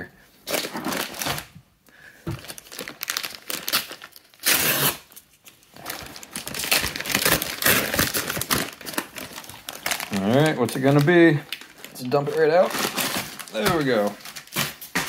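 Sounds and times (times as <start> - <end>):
paper tearing and crinkling: 2.5 - 15.0.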